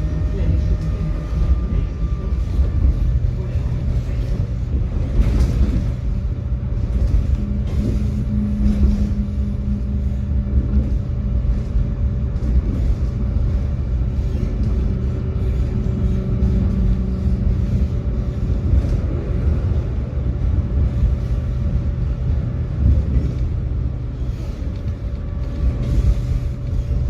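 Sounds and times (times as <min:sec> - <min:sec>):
tram wheels rumbling on rails: 0:00.0 - 0:27.0.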